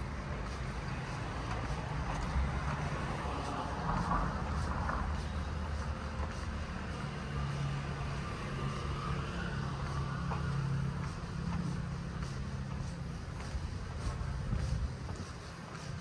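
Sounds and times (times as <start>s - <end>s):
street noise: 0.0s - 16.0s
vehicle engine running: 0.0s - 16.0s.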